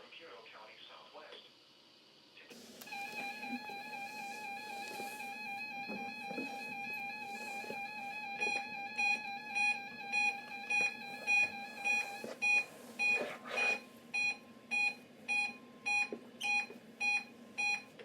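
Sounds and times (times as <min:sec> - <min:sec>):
weather radio alarm beeping: 0:02.5 - 0:17.9.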